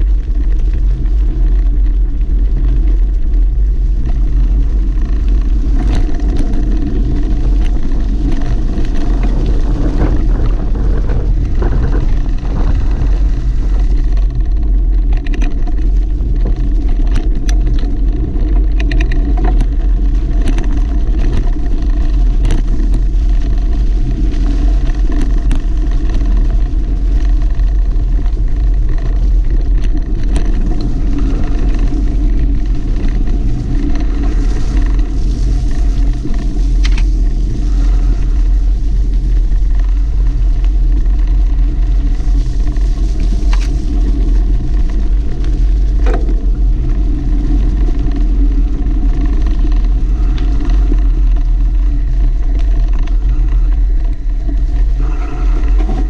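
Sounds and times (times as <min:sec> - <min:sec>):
bike knocks and rattles: 0:00.0 - 0:55.8
wind buffeting microphone: 0:00.0 - 0:56.0.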